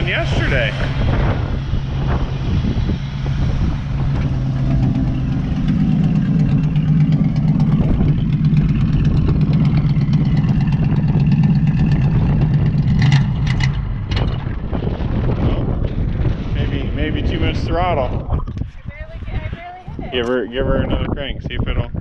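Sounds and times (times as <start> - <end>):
car engine exhaust note: 0.0 - 21.1.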